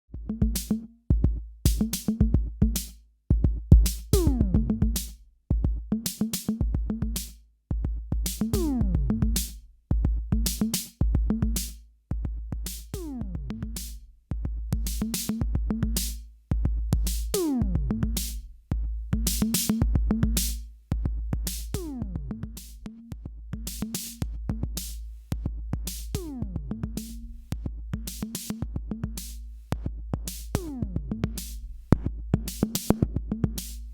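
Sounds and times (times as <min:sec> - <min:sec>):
drum machine loop: 0:00.2 - 0:33.9.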